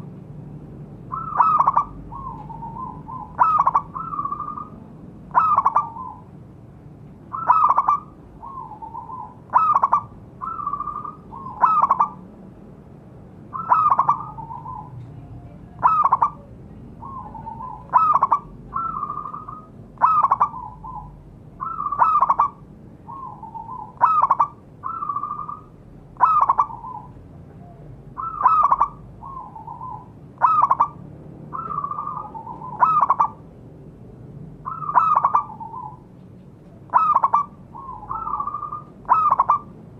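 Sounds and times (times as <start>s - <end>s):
dove cooing: 1.1s - 6.4s, 7.3s - 12.2s, 13.5s - 33.5s, 34.6s - 39.8s.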